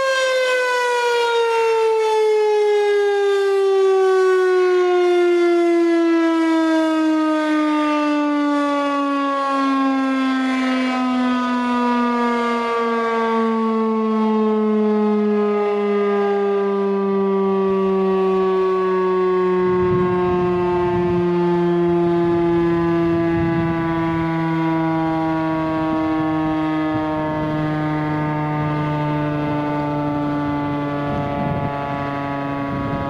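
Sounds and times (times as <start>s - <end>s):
siren winding down: 0.0s - 33.0s.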